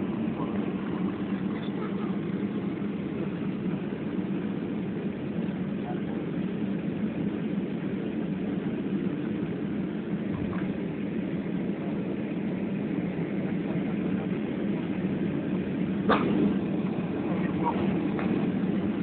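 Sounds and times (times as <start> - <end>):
low drone inside aircraft cabin: 0.0 - 19.0.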